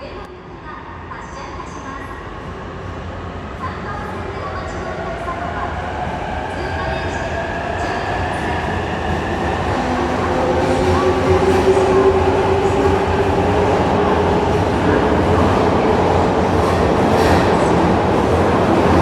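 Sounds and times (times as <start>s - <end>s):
train rail and running noise: 0.7s - 19.0s.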